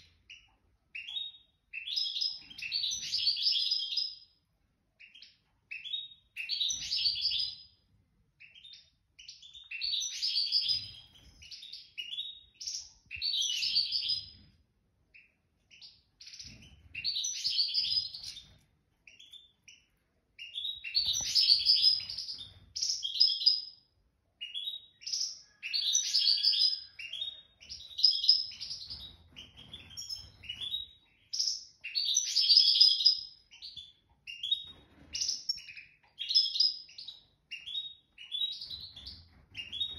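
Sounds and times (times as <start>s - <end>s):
bird twittering and trilling: 0.0s - 4.4s, 5.0s - 7.8s, 8.4s - 14.5s, 15.1s - 39.9s.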